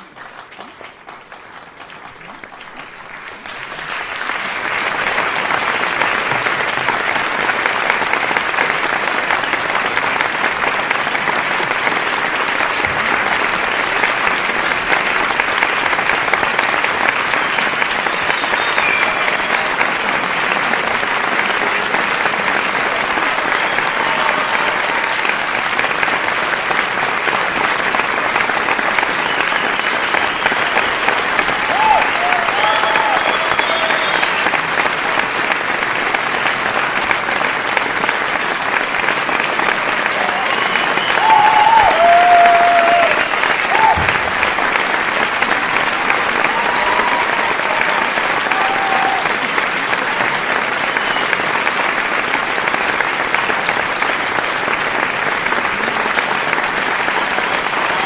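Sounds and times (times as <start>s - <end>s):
crowd applauding: 0.0s - 58.0s.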